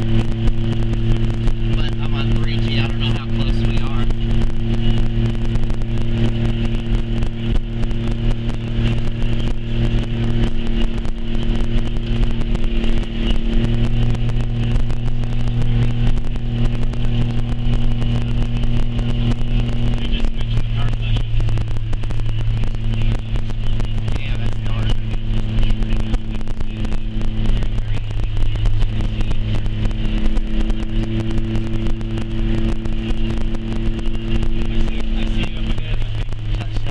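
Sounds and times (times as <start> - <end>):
car driving from inside cabin: 0.0 - 36.9.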